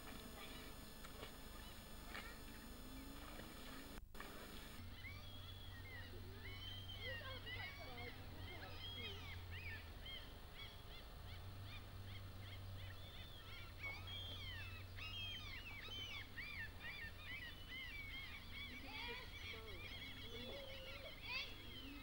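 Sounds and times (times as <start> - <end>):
steady low hum: 0.0 - 22.0
many birds chirping: 0.1 - 22.0.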